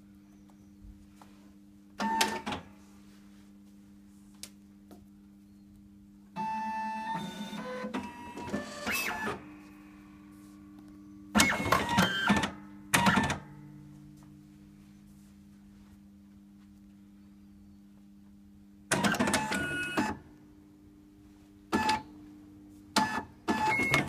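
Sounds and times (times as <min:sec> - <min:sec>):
low steady hum: 0:00.0 - 0:06.6, 0:07.9 - 0:18.9, 0:19.8 - 0:23.5.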